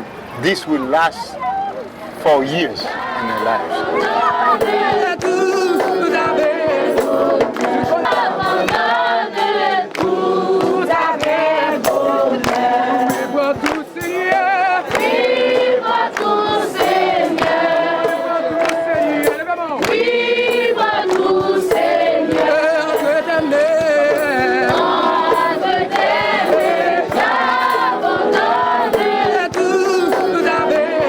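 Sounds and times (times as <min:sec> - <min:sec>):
group singing in chorus: 0:02.6 - 0:31.0
sharp percussive hits: 0:03.1 - 0:31.0.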